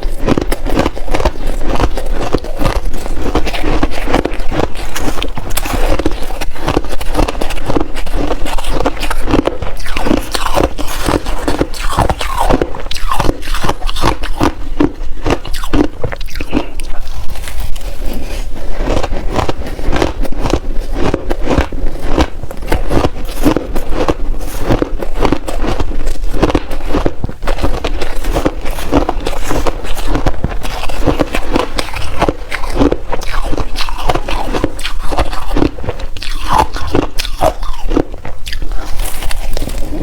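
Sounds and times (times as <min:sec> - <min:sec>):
crunching shaved ice: 0:00.0 - 0:40.0.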